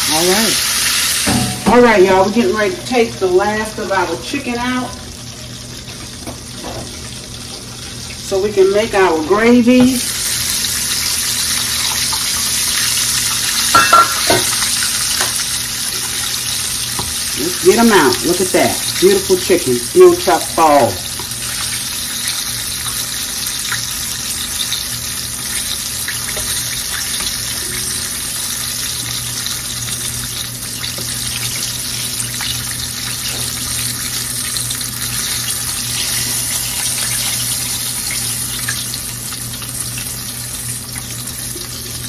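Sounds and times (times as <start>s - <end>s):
chicken sizzling in frying oil: 0.0s - 42.0s.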